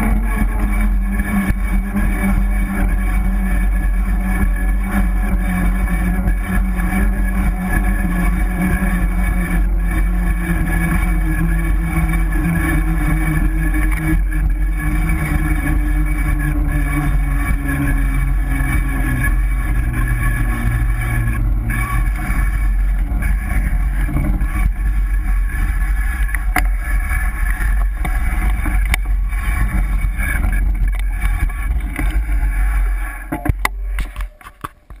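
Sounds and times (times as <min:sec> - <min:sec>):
bike riding rumble and rattles: 0:00.0 - 0:35.0
disc brake rubbing whine: 0:00.0 - 0:35.0.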